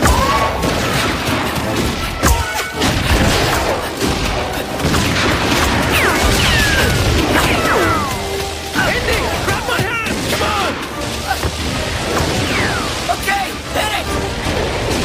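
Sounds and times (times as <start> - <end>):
dramatic film score: 0.0 - 15.0
explosions and crashing: 0.0 - 15.0.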